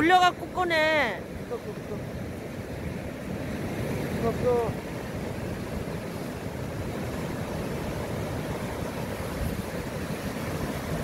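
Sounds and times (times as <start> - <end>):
surf breaking on a beach: 0.0 - 11.0.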